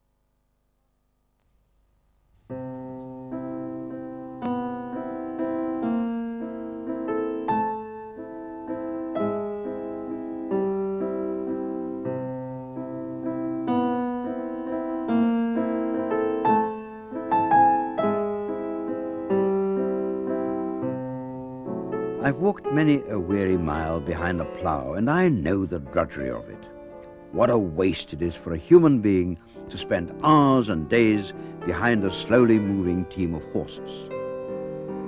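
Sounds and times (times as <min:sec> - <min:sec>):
slow piano music: 0:02.5 - 0:35.0.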